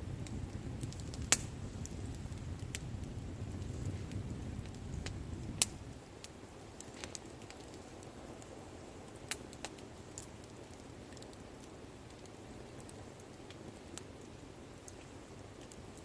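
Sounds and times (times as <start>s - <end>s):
wood bonfire crackling: 0.0s - 16.0s.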